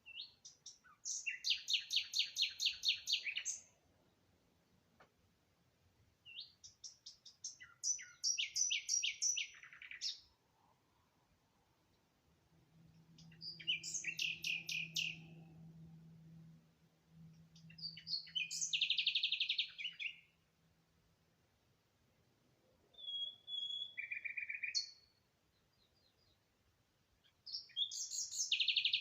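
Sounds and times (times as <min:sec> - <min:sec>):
songbird chirping: 0:00.0 - 0:29.0.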